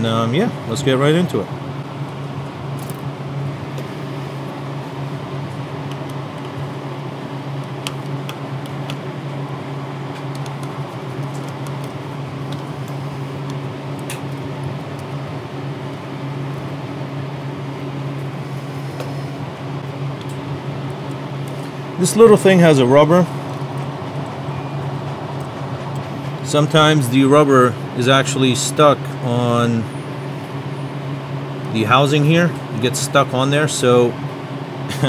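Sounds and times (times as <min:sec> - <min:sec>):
blower fan humming: 0:00.0 - 0:35.0.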